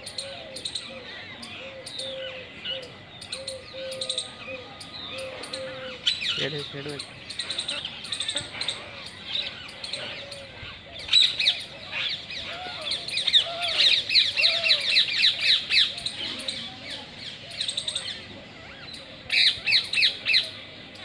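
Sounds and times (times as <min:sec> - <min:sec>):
birds chirping: 0:00.0 - 0:21.0
soft arched bird calls: 0:00.0 - 0:21.0.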